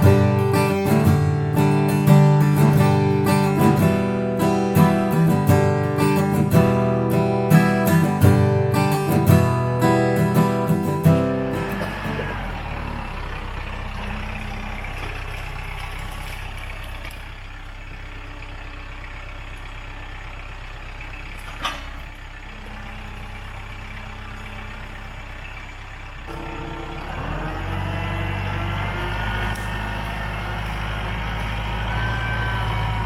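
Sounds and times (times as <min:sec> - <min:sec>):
diesel tractor engine running: 0:00.0 - 0:33.0.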